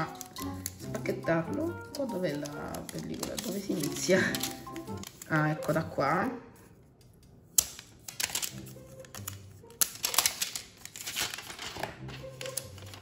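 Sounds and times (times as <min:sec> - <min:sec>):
plastic film crinkling: 0:00.0 - 0:06.0, 0:07.7 - 0:13.0.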